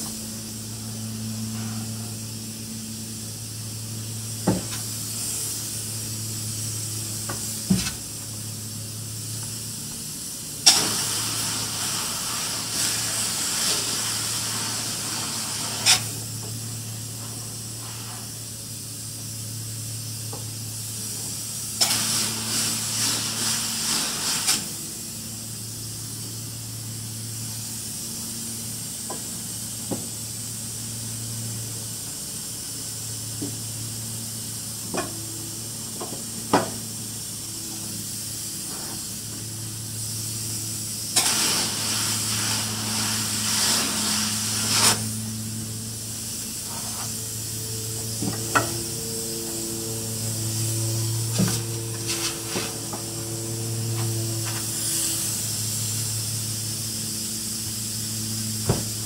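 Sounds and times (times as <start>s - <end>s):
spray foam gun hissing: 0.0s - 59.0s
steady low hum: 0.0s - 59.0s.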